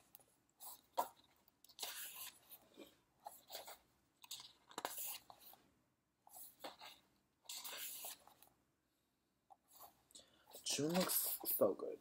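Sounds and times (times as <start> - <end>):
book pages turning: 0.0 - 5.7, 6.3 - 8.6, 9.5 - 11.8.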